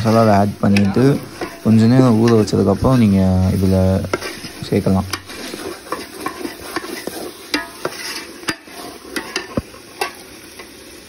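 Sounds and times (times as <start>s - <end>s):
steel ladle scraping pot: 0.0s - 10.7s
light sizzling: 0.0s - 11.0s.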